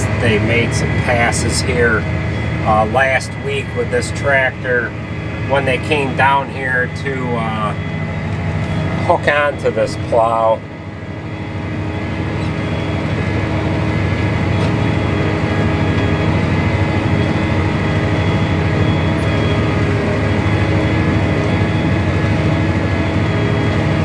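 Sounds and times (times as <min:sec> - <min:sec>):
tractor engine humming: 0:00.0 - 0:24.0.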